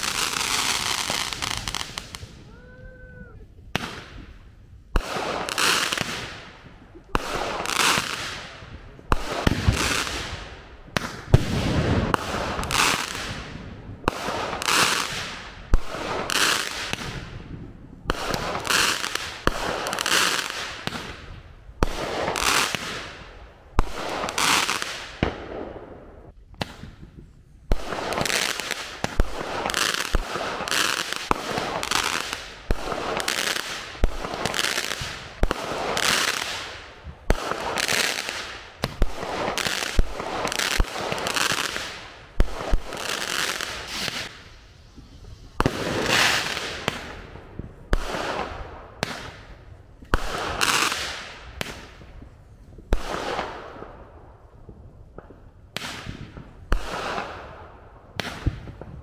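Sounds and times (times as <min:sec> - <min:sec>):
fireworks firing with hiss: 0:00.0 - 0:59.0.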